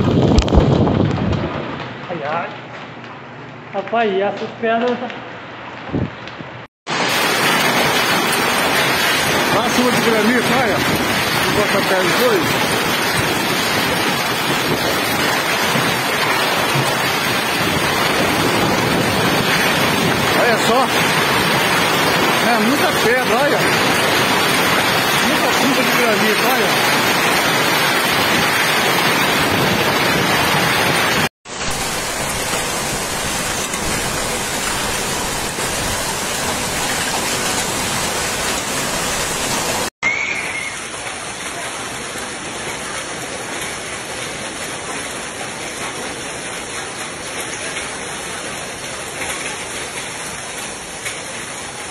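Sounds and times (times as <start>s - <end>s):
rain and hail pelting pavement: 0.0s - 3.0s, 6.9s - 51.9s.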